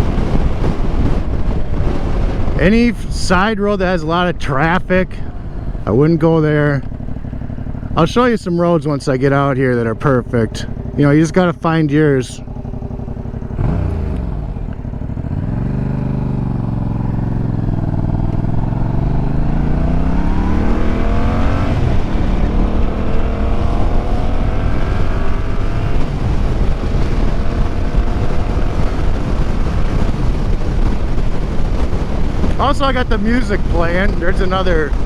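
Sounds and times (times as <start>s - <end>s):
motorcycle engine accelerating: 0.0s - 35.0s
wind rushing over microphone: 0.0s - 35.0s.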